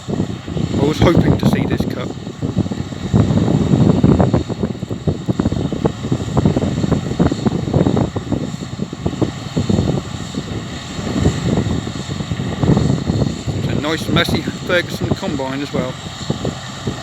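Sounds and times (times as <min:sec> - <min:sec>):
combine harvester running: 0:00.0 - 0:17.0
wind buffeting microphone: 0:00.0 - 0:17.0.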